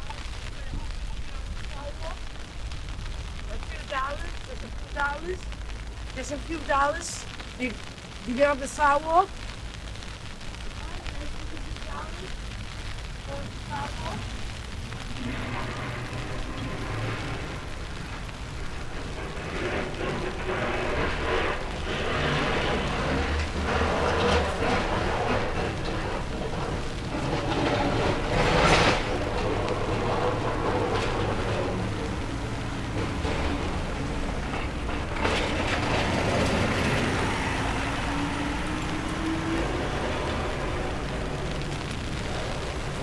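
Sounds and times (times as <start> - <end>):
rumbling city street noise: 0.0 - 43.0.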